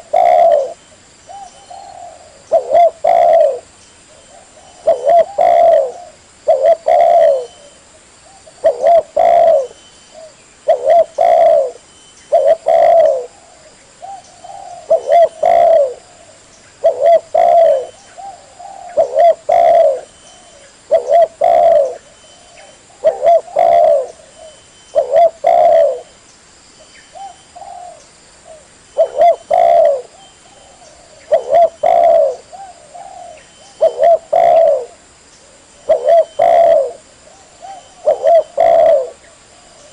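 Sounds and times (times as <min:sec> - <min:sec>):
dove cooing: 0:00.0 - 0:26.1, 0:27.1 - 0:39.9.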